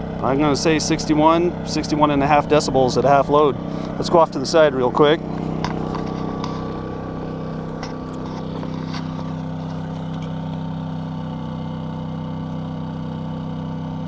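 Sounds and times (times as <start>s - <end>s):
generator running: 0.0s - 14.0s.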